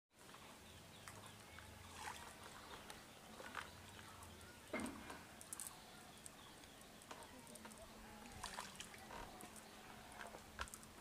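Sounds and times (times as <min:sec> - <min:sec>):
faint water splashes: 0:00.2 - 0:11.0.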